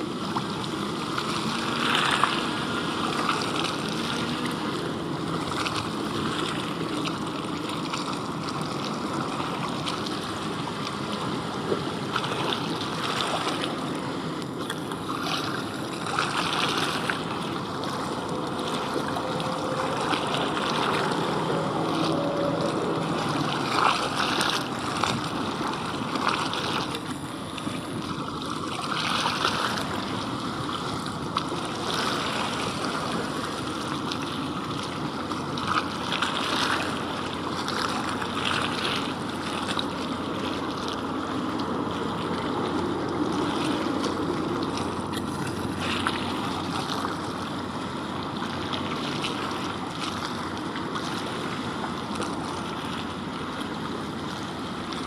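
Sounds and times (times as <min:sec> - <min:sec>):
water splashing and lapping: 0:00.0 - 0:55.0.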